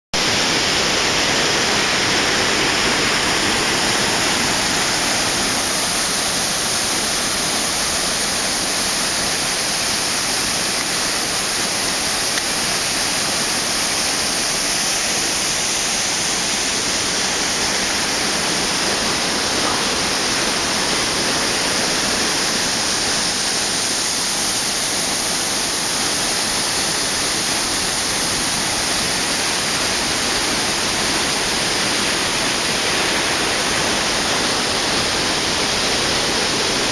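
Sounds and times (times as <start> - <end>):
water rushing over rocks: 0.2 - 36.9.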